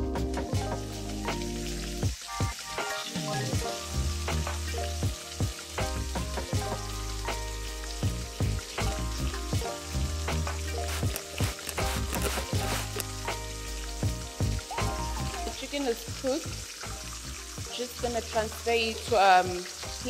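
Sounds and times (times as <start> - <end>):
chicken deep-frying in oil: 0.0 - 20.0
soft background music: 0.0 - 20.0.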